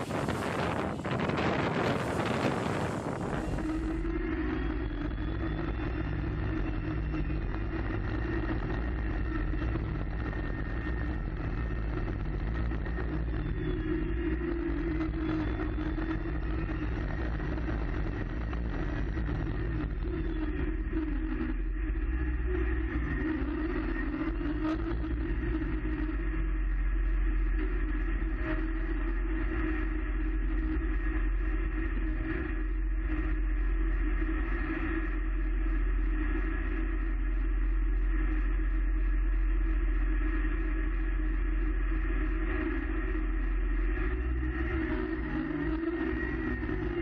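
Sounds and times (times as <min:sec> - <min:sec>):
engine low drone: 0:00.0 - 0:47.0.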